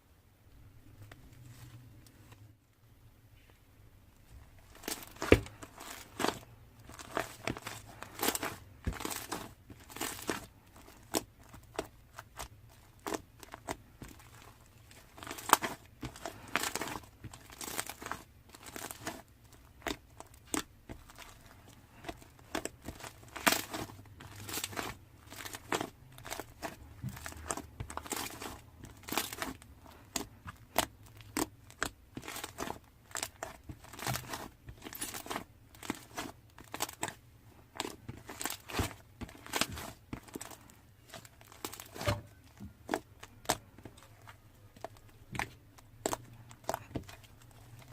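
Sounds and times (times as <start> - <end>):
crinkling and rustling: 0.9 - 2.8, 4.2 - 47.9.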